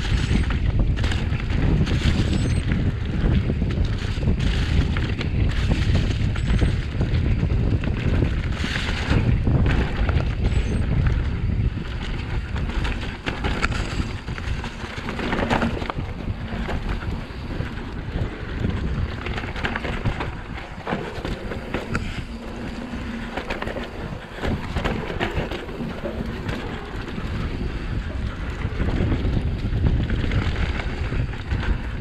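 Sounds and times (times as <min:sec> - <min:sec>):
bike tyre noise: 0:00.0 - 0:32.0
low rumble: 0:00.0 - 0:32.0
wind buffeting microphone: 0:00.0 - 0:32.0.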